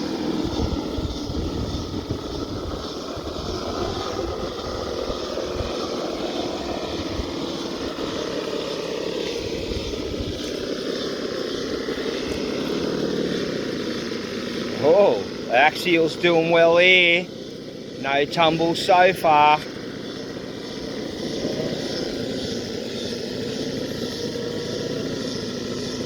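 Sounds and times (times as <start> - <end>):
rc car motor whining: 0.0 - 26.0.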